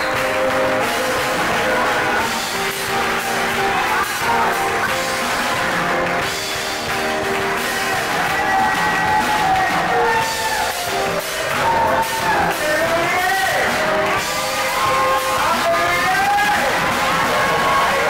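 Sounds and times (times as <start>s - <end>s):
keyboard accompaniment: 0.0s - 18.0s.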